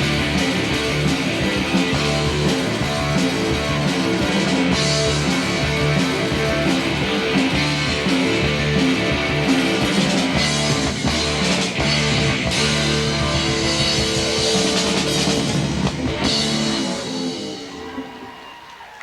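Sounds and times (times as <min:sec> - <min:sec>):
bass guitar: 0:00.0 - 0:18.4
guitars: 0:00.0 - 0:18.6
drum kit: 0:00.0 - 0:18.7.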